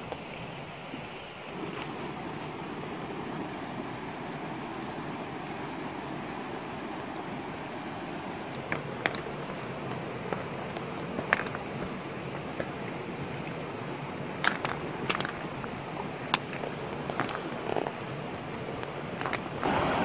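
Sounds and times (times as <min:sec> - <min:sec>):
stream running over rocks: 0:00.0 - 0:20.0.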